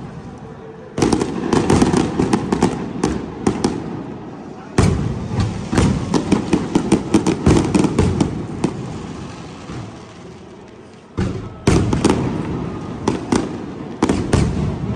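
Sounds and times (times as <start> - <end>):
fireworks cracking and banging: 0.0 - 14.9.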